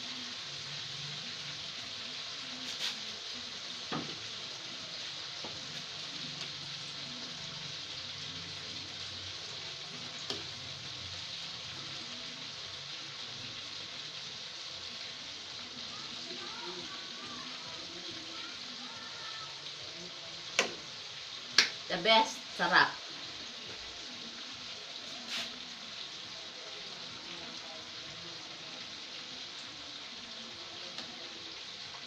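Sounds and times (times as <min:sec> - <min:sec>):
soup simmering with a hiss: 0:00.0 - 0:32.0.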